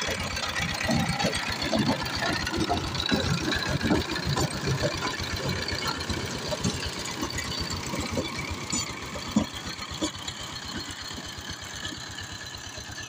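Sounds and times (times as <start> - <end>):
diesel tiller engine running: 0.0 - 13.0.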